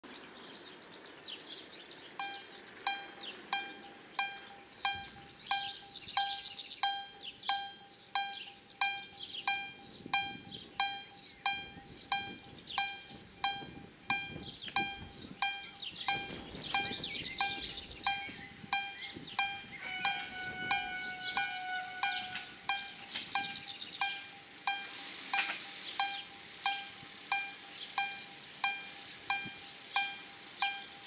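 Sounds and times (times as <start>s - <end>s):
level crossing bell ringing: 2.2s - 30.9s.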